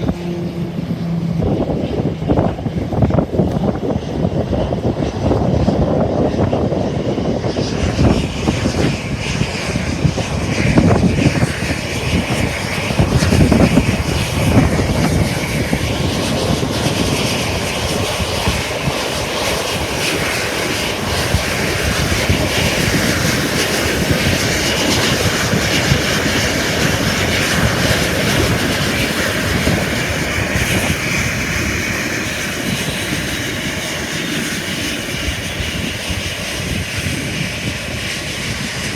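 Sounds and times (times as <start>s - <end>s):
jet engines running: 0.0s - 38.9s
wind buffeting microphone: 0.0s - 38.9s.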